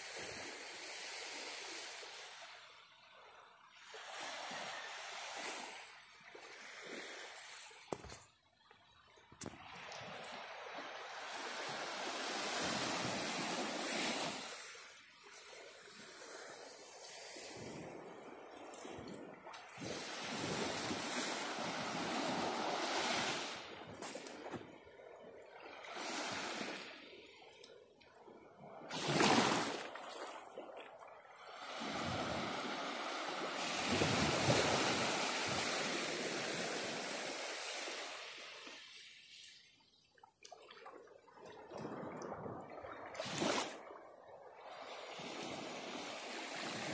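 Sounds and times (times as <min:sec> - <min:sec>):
small waves washing onto beach: 0:00.0 - 0:46.9.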